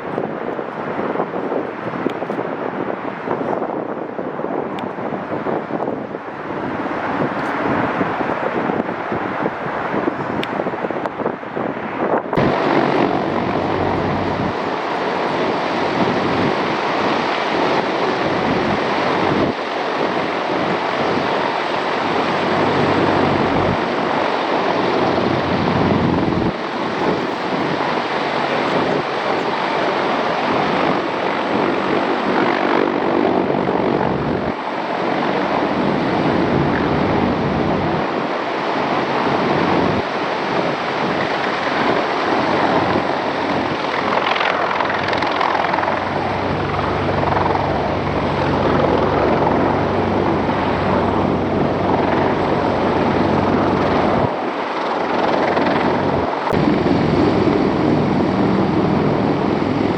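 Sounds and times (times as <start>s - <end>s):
plane engine drone flying over: 0.0s - 59.9s.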